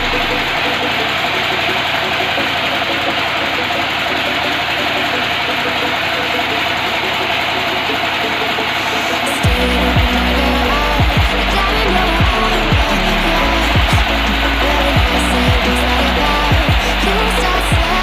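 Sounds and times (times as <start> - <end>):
engine-driven wood saw running: 0.0 - 18.0.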